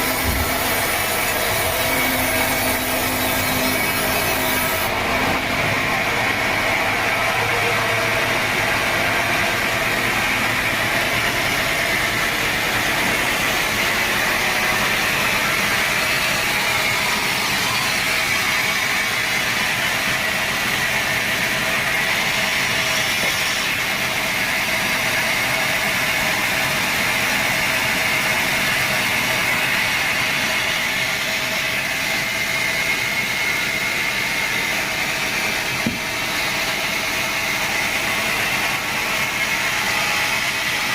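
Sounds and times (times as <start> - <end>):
sawmill saw running: 0.0 - 40.9.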